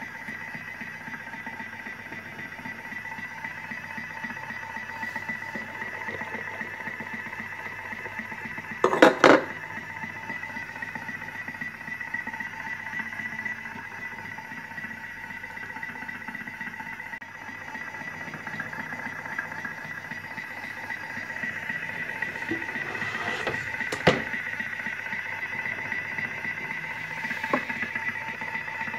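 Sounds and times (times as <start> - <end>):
food processor motor whining: 0.0 - 28.9.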